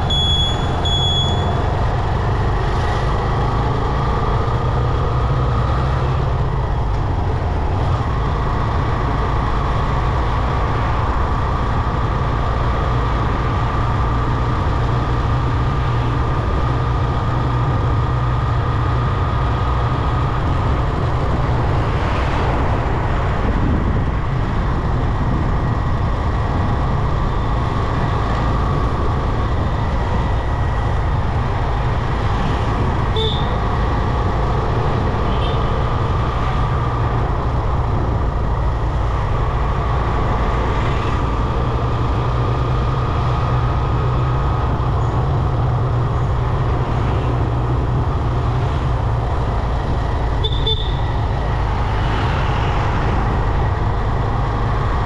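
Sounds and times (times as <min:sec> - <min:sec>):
motorcycle engine rumble: 0:00.0 - 0:55.0
road noise: 0:00.0 - 0:55.0.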